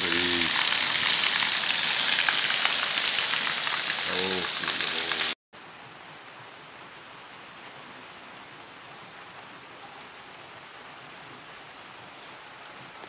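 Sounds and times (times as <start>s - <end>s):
heavy rain hissing on pavement: 0.0s - 13.0s.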